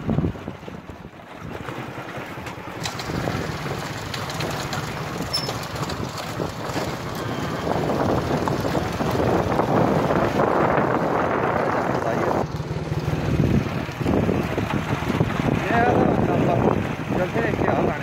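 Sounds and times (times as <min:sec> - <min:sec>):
wind buffeting microphone: 0:00.0 - 0:18.0
motorcycle engine running: 0:02.2 - 0:18.0.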